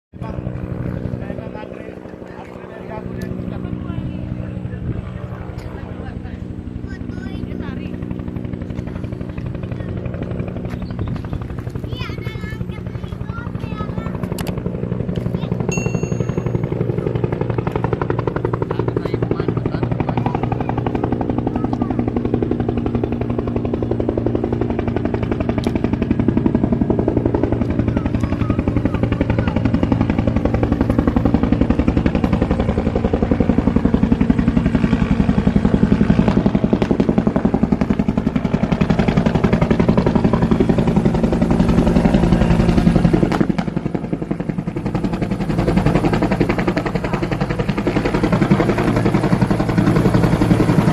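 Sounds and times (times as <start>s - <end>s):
helicopter engine drone: 0.1s - 50.9s
helicopter rotor beating: 0.1s - 50.9s.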